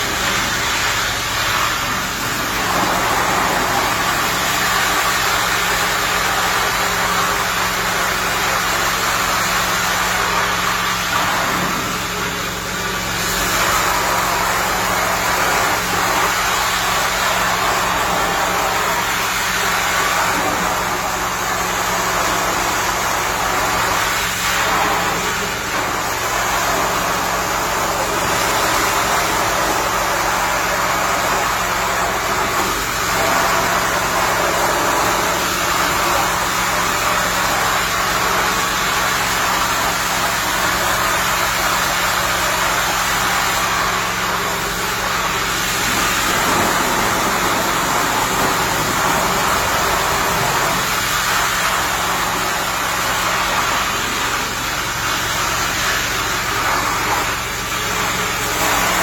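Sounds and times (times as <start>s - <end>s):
carpet cleaning machine hum: 0.0s - 59.0s
suction hissing: 0.0s - 59.0s.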